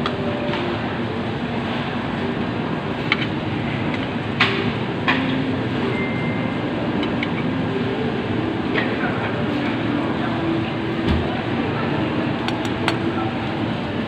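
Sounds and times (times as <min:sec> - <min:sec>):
restaurant background noise: 0:00.0 - 0:14.0.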